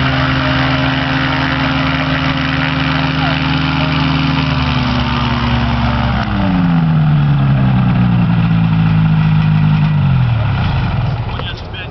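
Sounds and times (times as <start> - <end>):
propeller plane engine running: 0.0 - 11.9.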